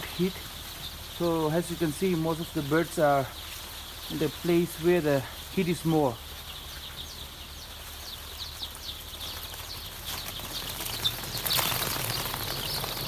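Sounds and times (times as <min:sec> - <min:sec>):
chicks peeping: 0:00.0 - 0:13.0
rustle: 0:00.0 - 0:13.0.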